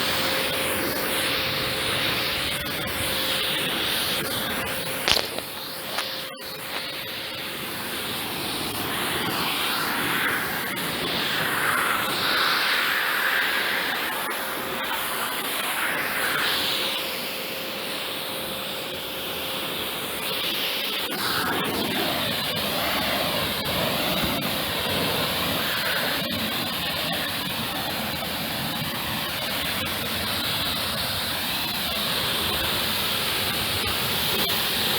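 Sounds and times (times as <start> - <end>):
pressure washer spraying water: 0.0 - 34.9
steady hum: 0.0 - 34.9.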